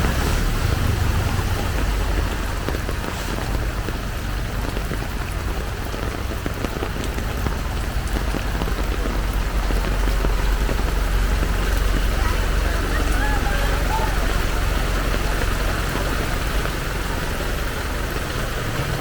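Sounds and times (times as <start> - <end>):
heavy rain pattering: 0.0 - 19.0
low rumble: 0.0 - 19.0.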